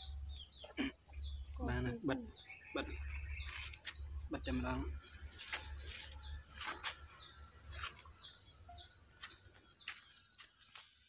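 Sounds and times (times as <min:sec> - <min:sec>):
small bird chirping: 0:00.0 - 0:10.9.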